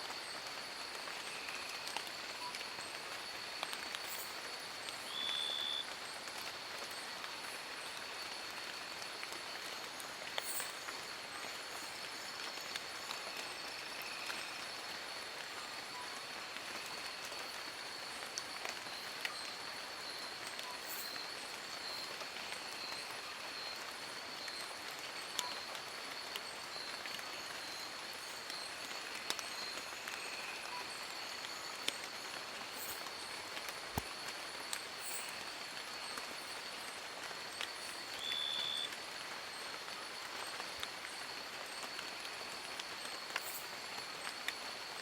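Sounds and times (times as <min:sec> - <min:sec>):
rain falling on leaves: 0:00.0 - 0:45.0.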